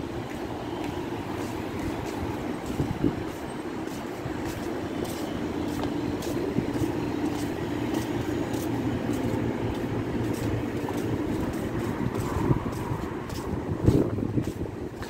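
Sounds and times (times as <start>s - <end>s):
footsteps on pavement: 0.0s - 15.0s
low mechanical hum: 0.0s - 15.0s.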